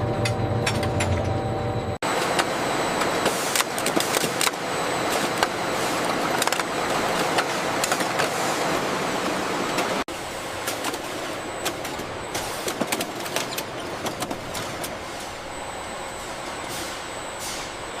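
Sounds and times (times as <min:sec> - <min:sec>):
factory machinery running: 0:00.0 - 0:18.0
faint high whine: 0:00.0 - 0:18.0.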